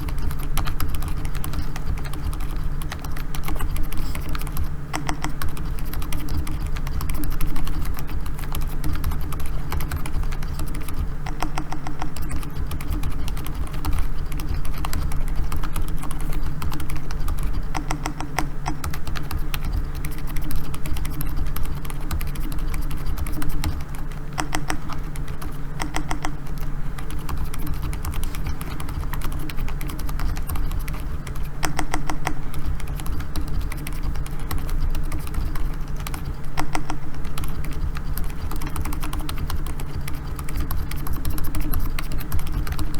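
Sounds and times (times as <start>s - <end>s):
keyboard typing: 0.0s - 42.9s
steady low hum: 0.0s - 42.9s.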